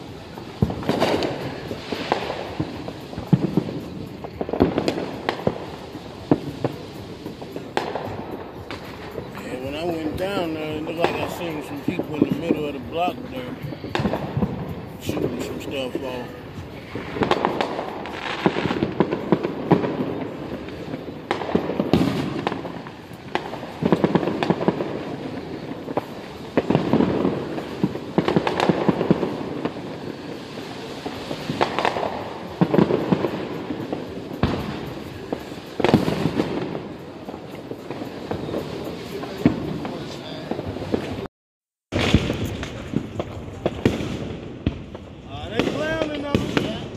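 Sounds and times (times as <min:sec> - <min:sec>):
fireworks bangs: 0:00.0 - 0:41.3, 0:41.9 - 0:46.9
fireworks crackling: 0:00.0 - 0:41.3, 0:41.9 - 0:46.9.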